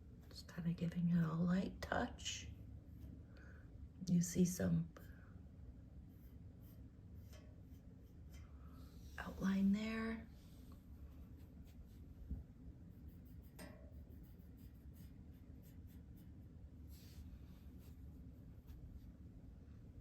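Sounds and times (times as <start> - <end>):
low room rumble: 0.0 - 20.0.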